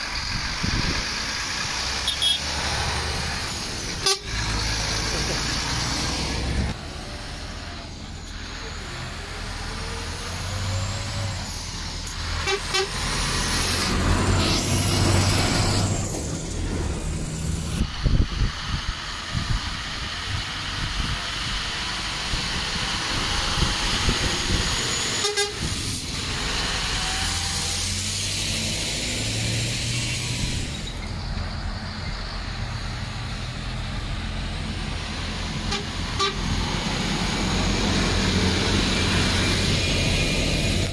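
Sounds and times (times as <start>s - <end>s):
lorries driving by: 0.0s - 40.9s.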